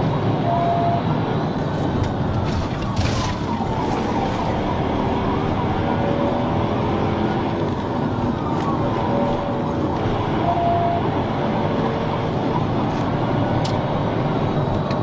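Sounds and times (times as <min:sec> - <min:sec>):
heavy vehicle engine: 0:00.0 - 0:15.0
road noise: 0:00.0 - 0:15.0
police siren wailing: 0:00.3 - 0:01.5, 0:02.2 - 0:15.0.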